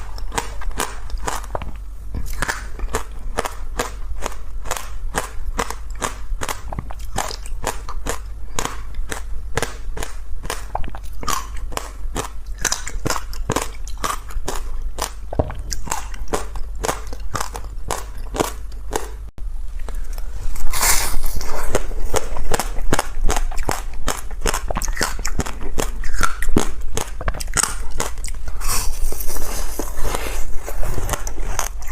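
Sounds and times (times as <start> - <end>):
ice crunching while chewed: 0.0 - 19.2, 19.8 - 31.9.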